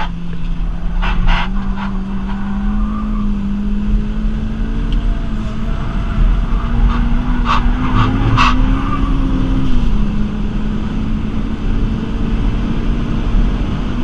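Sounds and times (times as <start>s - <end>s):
car engine accelerating: 0.0s - 14.0s
low road rumble: 0.0s - 14.0s.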